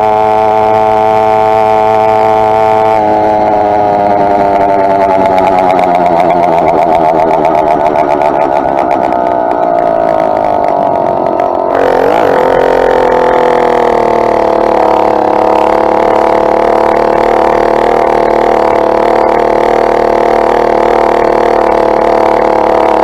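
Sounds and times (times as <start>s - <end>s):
two-stroke engine running: 0.0s - 23.0s.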